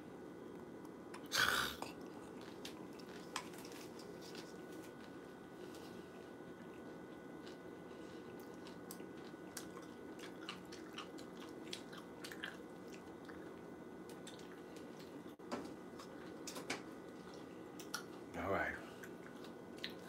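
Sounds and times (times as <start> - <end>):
person chewing cereal: 1.1 - 18.2, 18.9 - 20.0.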